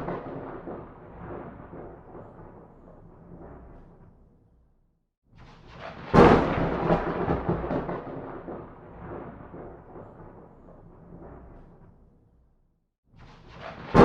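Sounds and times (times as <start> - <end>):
thunderclap: 0.0 - 4.6, 5.4 - 12.4, 13.2 - 14.0.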